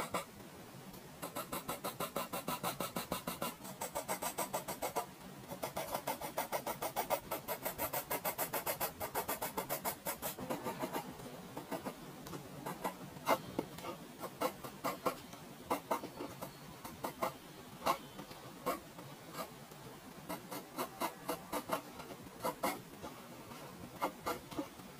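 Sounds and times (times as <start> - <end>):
pencil scratching on paper: 1.2 - 12.0, 12.6 - 18.0, 18.6 - 18.8, 20.3 - 22.8, 23.5 - 24.7.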